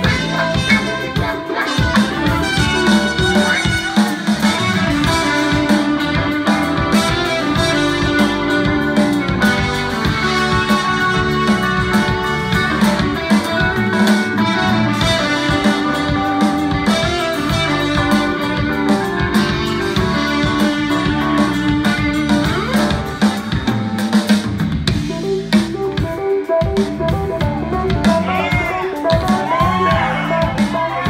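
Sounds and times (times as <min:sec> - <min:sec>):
live rock band: 0:00.0 - 0:31.0
steady drum beat: 0:00.0 - 0:31.0
strummed electric guitar: 0:00.0 - 0:31.0.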